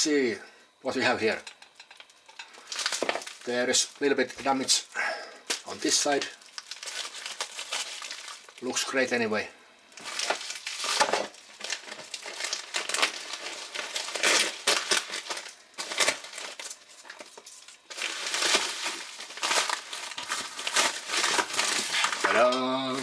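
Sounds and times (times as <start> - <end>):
packaging crinkling and rustling: 1.9 - 4.6, 5.4 - 9.1, 10.0 - 23.0.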